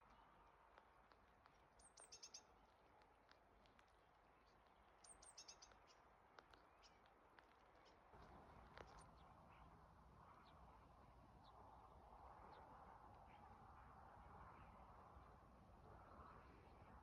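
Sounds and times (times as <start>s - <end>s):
songbird singing: 1.1s - 14.9s.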